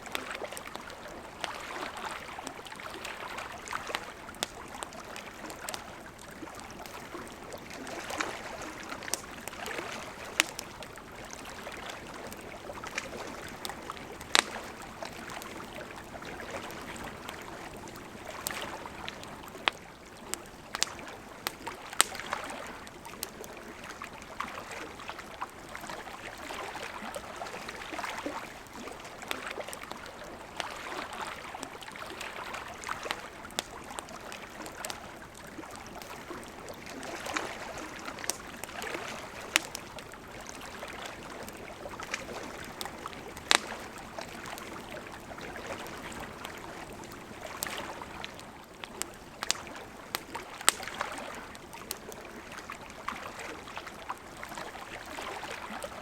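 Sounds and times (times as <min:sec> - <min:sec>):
campfire crackling: 0:00.0 - 0:56.0
lake water lapping: 0:00.0 - 0:56.0.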